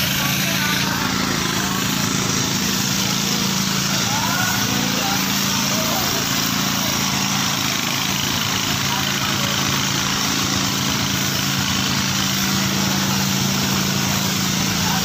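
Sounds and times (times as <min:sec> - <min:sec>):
truck engine running: 0:00.0 - 0:15.0
water jetting from a hose: 0:00.0 - 0:15.0.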